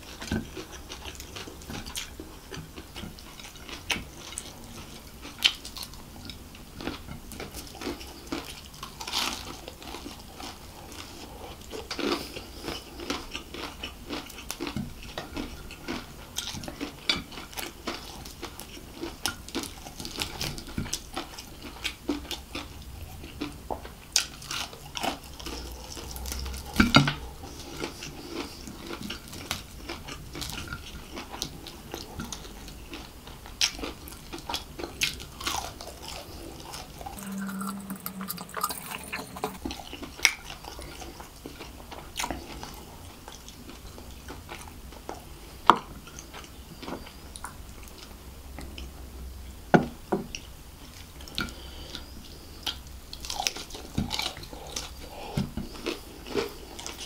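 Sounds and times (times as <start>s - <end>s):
chewing and crunching: 0.0s - 49.0s, 50.3s - 57.0s.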